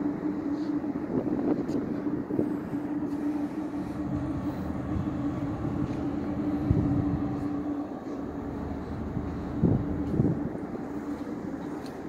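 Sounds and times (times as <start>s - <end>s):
ferry machinery hum: 0.0s - 12.0s
low uneven rumble: 0.0s - 12.0s.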